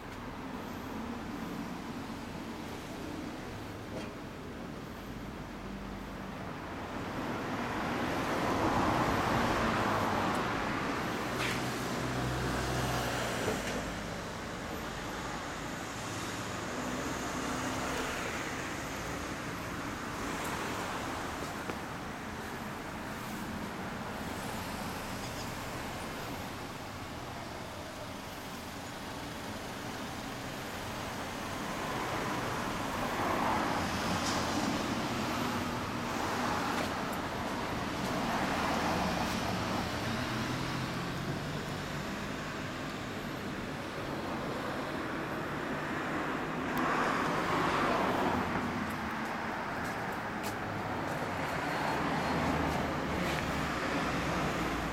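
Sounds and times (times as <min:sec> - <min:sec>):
road traffic noise: 0:00.0 - 0:54.9
vehicles passing: 0:00.0 - 0:54.9.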